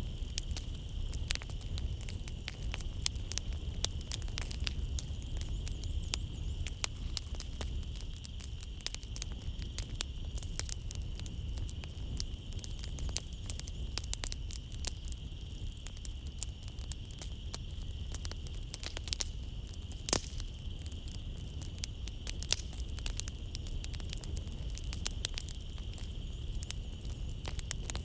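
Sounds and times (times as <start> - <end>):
night insects droning: 0.0 - 28.0
wood fire crackling: 0.0 - 28.0.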